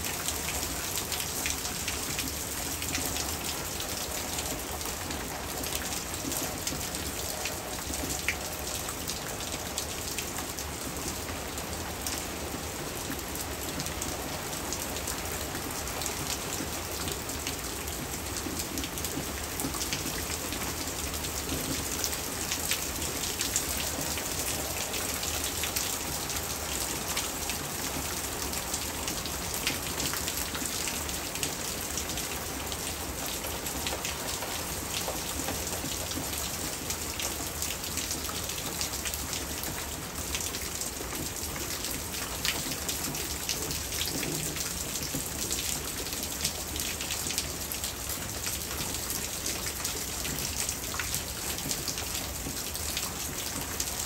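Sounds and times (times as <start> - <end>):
hard rain on hard surfaces: 0.0 - 54.0.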